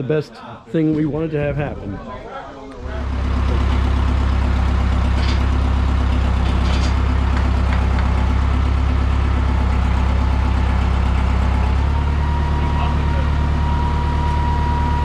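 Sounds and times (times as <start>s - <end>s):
large engine idling: 2.7s - 15.0s.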